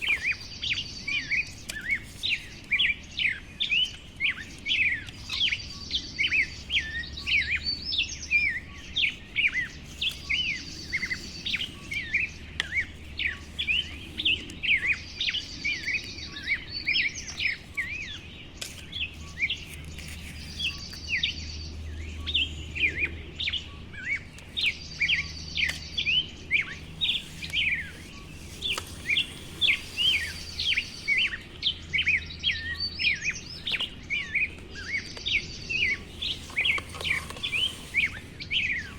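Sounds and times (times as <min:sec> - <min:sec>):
birds chirping and twittering: 0:00.0 - 0:38.9
high bird trill: 0:00.0 - 0:38.9.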